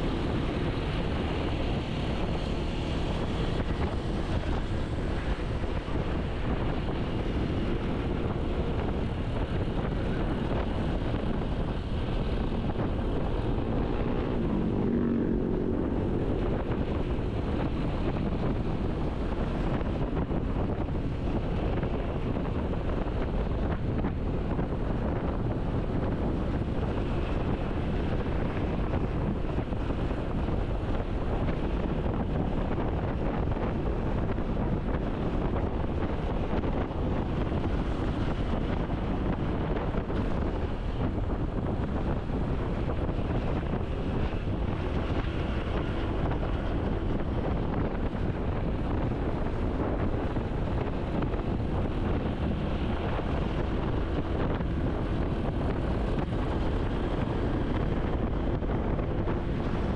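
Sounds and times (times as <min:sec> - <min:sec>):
vehicle road noise: 0:00.0 - 0:59.9
wind on microphone: 0:00.0 - 0:59.9.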